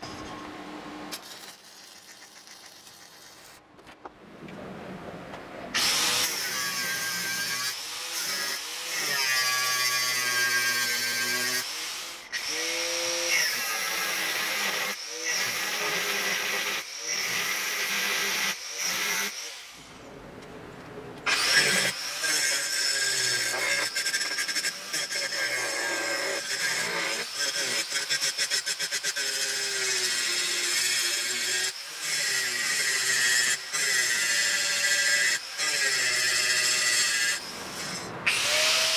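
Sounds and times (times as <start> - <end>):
angle grinder grinding steel: 1.1 - 3.6, 5.8 - 19.9, 21.3 - 38.9.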